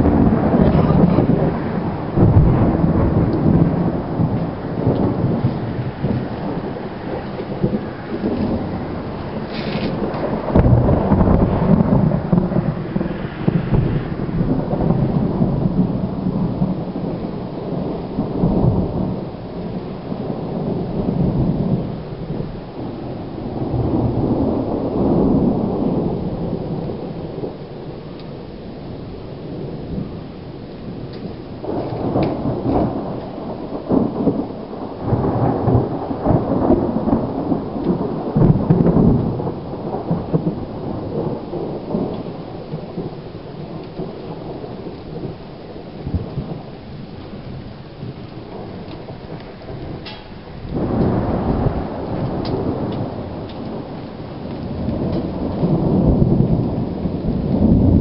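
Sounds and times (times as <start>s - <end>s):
crackling thunder peal: 0.0s - 58.0s
steady rain: 0.0s - 58.0s
thunder rumbling: 0.0s - 58.0s.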